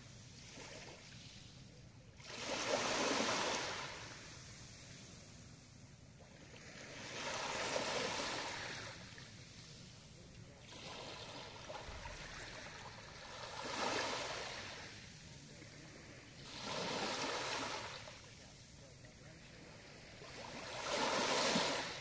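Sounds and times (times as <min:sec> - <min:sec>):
small waves washing onto shore: 0:00.0 - 0:22.0.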